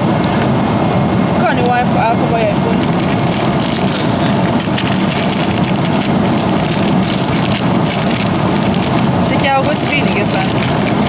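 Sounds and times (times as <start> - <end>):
low boat engine rumble: 0.0 - 11.0.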